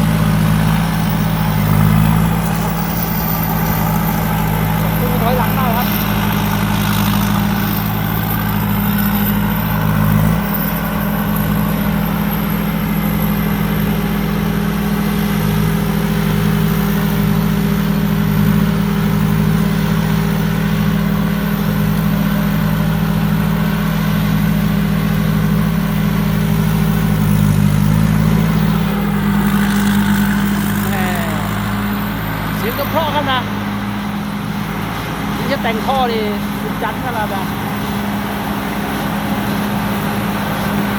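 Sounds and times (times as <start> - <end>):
harvester engine running: 0.0 - 40.9.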